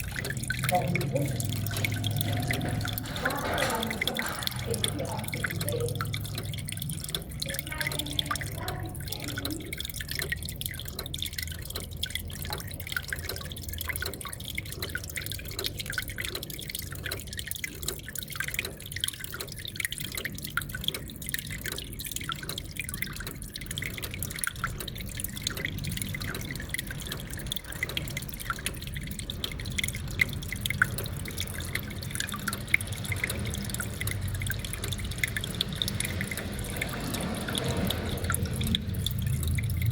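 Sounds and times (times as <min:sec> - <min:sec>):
water trickling into aquarium: 0:00.0 - 0:39.9.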